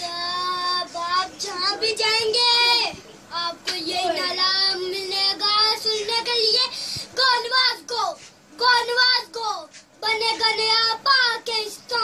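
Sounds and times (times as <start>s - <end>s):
boy singing: 0.0s - 12.0s.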